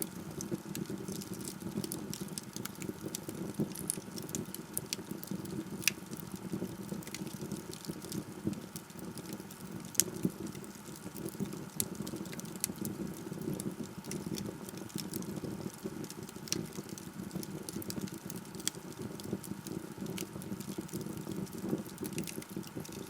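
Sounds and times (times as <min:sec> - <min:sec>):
log fire crackling: 0:00.0 - 0:23.0.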